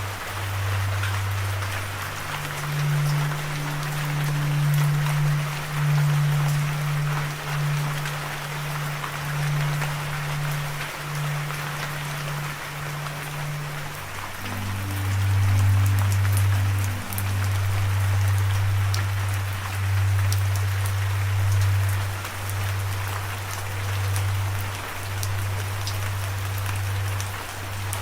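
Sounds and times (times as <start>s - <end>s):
low droning hum: 0.0s - 28.0s
steady rain: 0.0s - 28.0s.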